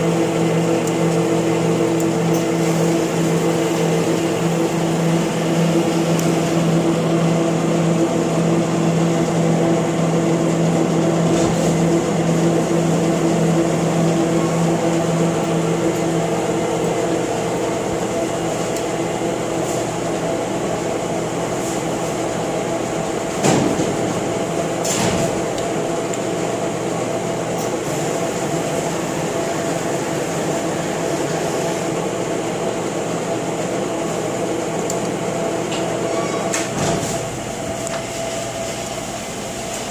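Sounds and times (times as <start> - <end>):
lathe running hum: 0.0 - 39.9.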